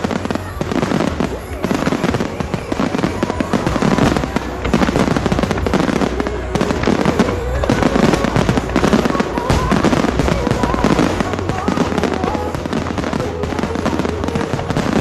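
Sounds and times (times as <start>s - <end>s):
fireworks barrage bangs and crackles: 0.0s - 15.0s.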